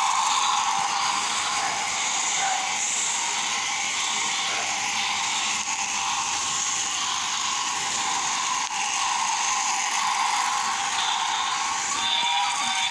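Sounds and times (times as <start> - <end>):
toy train motor whirring: 0.0 - 12.9.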